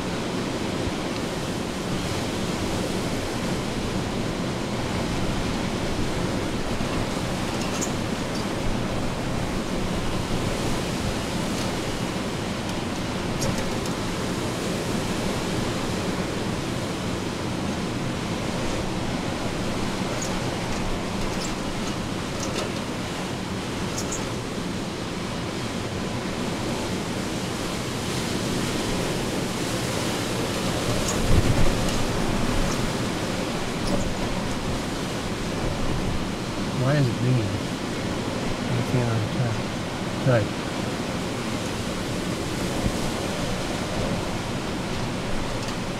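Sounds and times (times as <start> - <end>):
hurricane wind and rain: 0.0 - 45.9.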